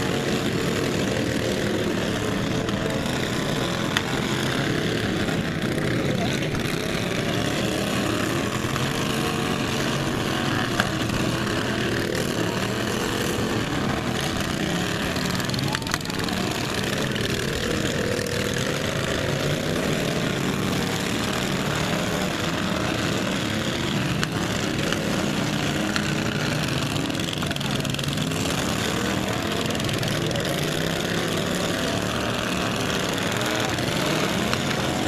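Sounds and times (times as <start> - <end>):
lawn mower engines revving: 0.0 - 35.0.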